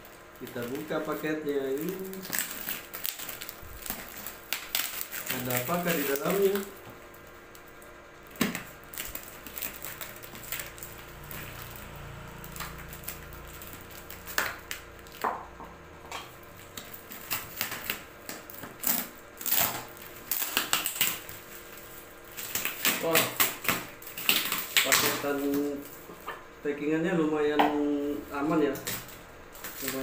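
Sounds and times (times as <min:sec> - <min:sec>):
packing tape ripping: 0:00.4 - 0:06.8, 0:08.3 - 0:15.2, 0:16.6 - 0:25.9, 0:28.6 - 0:30.0.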